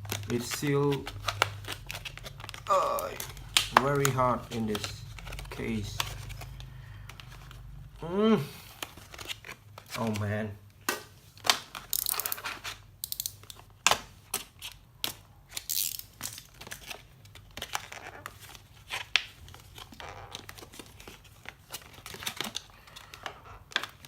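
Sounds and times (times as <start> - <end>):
plastic packaging crackling and snapping: 0.0 - 7.9, 8.6 - 24.0.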